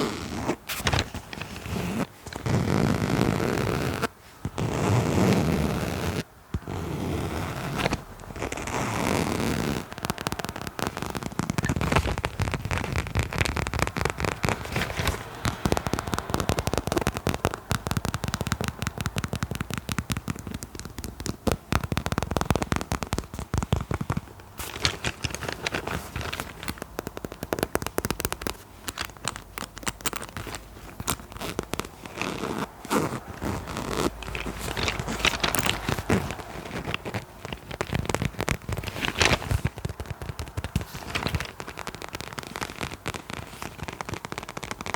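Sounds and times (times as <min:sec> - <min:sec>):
fast tapping and scratching: 0:07.7 - 0:44.9.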